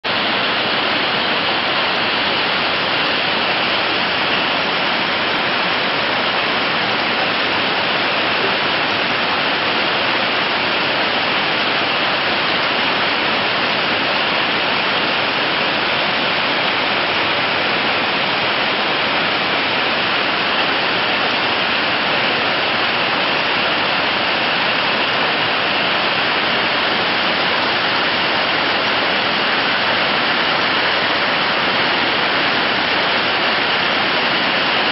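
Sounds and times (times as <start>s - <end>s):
steady hiss of noise: 0.0s - 34.9s.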